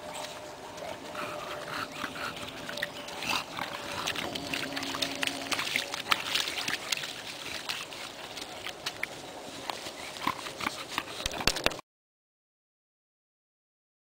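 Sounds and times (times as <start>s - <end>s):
dog paws splashing in mud: 0.2s - 11.8s.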